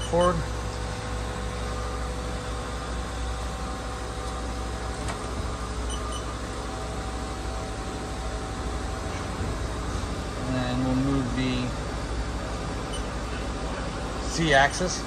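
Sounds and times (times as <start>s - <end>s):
lathe machinery humming: 0.0s - 15.0s.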